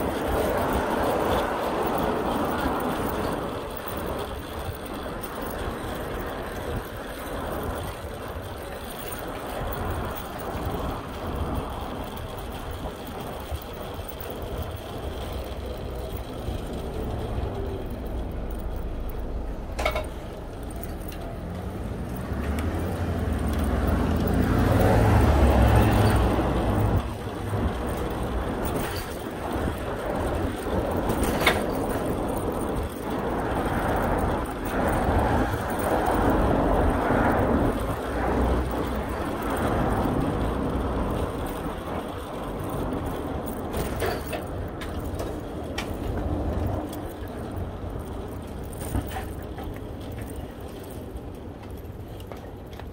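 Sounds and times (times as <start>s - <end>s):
street traffic rumbling hiss: 0.0s - 52.9s.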